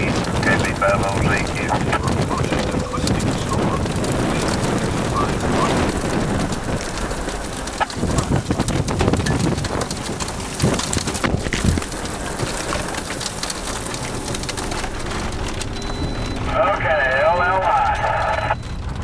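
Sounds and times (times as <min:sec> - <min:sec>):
rain and wind: 0:00.0 - 0:19.0
raindrops striking: 0:00.0 - 0:19.0.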